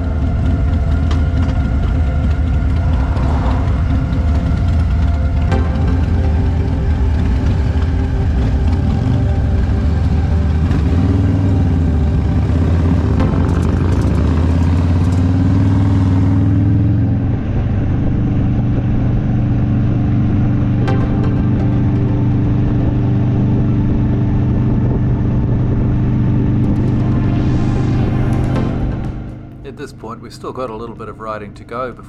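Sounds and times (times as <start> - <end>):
motorcycle engines accelerating: 0.0 - 32.0.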